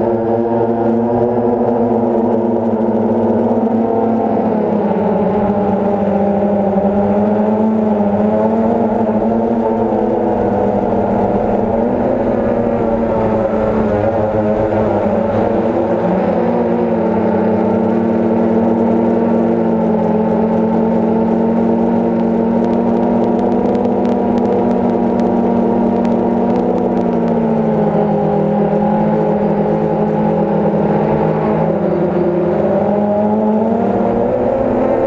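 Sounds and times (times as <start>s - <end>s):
drone propellers buzzing: 0.0s - 35.0s.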